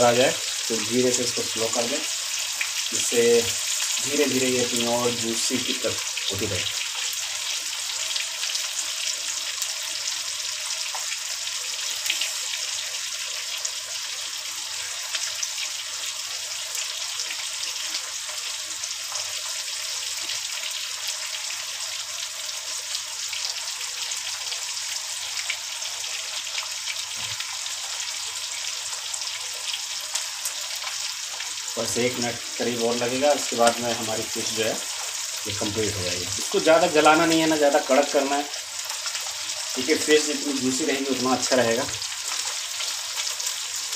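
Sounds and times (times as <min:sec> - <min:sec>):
fish sizzling in oil: 0:00.0 - 0:43.9.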